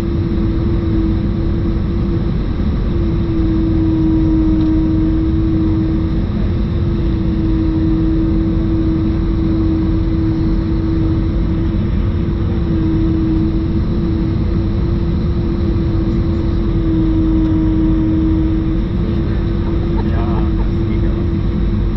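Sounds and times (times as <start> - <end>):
howling engine tone: 0.0 - 21.9
jet engine rumble in cabin: 0.0 - 21.9.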